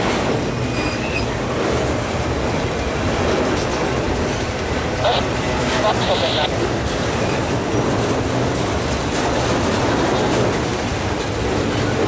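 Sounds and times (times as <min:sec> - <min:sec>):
steel wheels running on rails: 0:00.0 - 0:12.0.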